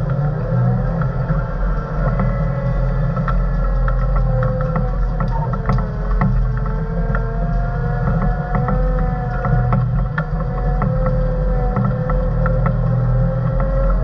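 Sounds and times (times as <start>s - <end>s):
steady whine: 0.0s - 14.0s.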